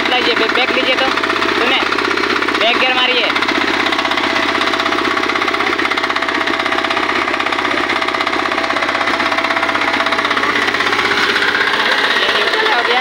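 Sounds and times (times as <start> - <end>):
single-cylinder engine running: 0.0 - 13.0.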